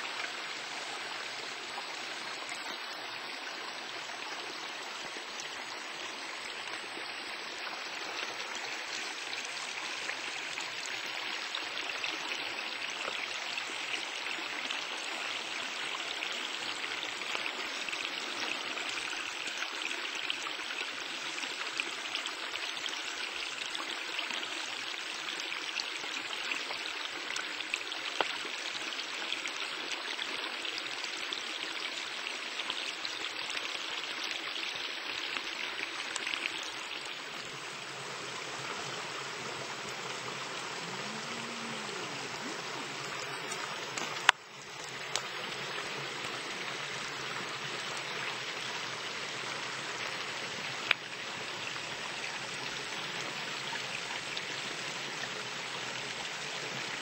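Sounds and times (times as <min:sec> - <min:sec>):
creek running over stones: 0:00.0 - 0:57.0.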